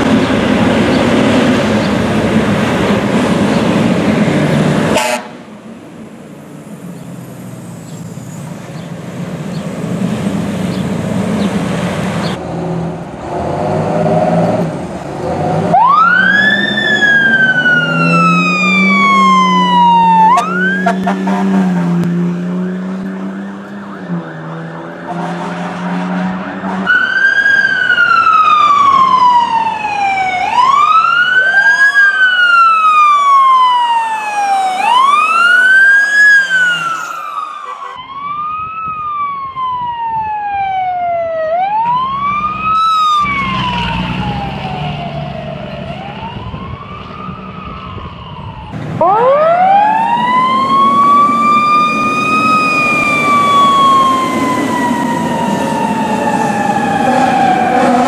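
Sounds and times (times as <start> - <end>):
fire truck sirens wailing: 0.0 - 58.0
truck rumble: 0.0 - 58.0.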